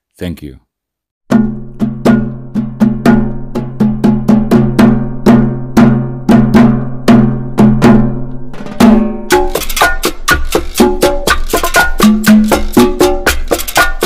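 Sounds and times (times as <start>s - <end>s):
steady drum beat: 1.3s - 14.0s.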